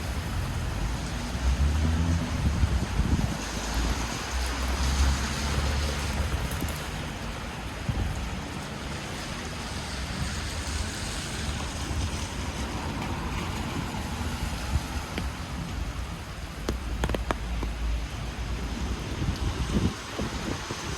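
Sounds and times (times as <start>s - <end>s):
rain hissing: 0.0s - 20.9s
traffic on wet street: 0.0s - 20.9s
wind rumble on microphone: 0.0s - 20.9s.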